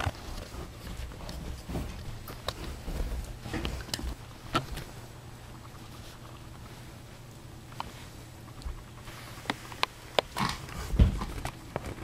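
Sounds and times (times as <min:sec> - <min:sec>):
kitten scuffling and rustling: 0:00.0 - 0:12.0.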